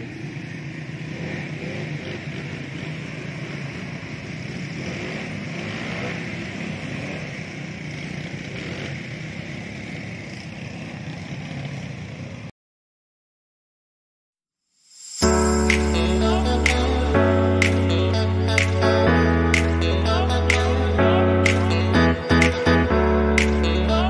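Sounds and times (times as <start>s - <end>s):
quad bike engines running: 0.0s - 12.5s, 15.2s - 24.0s.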